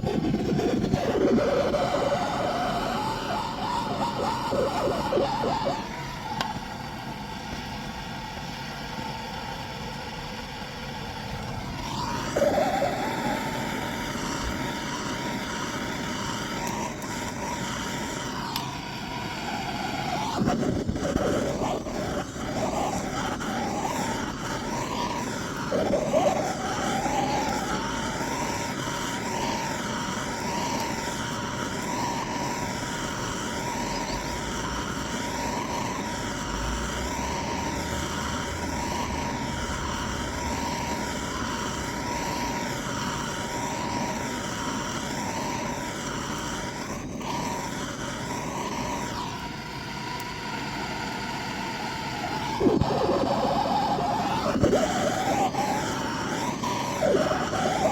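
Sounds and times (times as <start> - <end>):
car running drone: 0.0 - 7.4, 10.8 - 50.3, 51.7 - 57.9
steady whine: 0.0 - 57.9.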